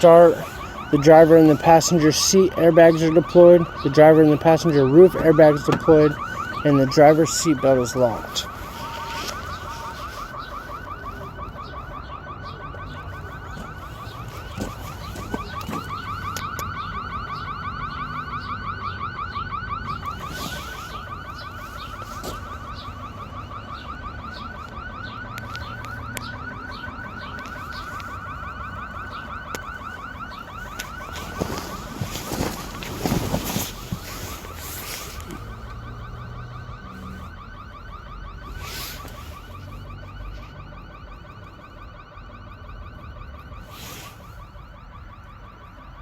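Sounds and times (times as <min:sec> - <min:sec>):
electronic alarm warbling: 0:00.0 - 0:32.7, 0:35.4 - 0:43.2.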